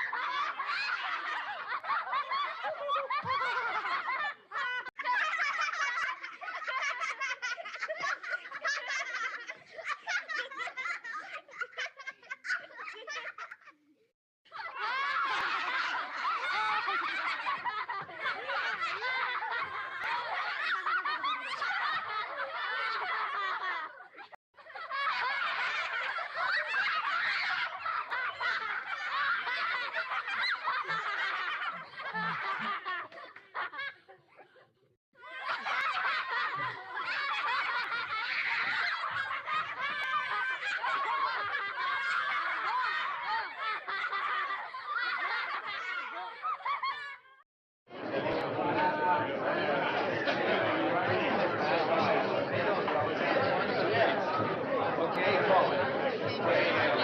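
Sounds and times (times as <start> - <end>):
crowd laughing: 0.0 - 57.0.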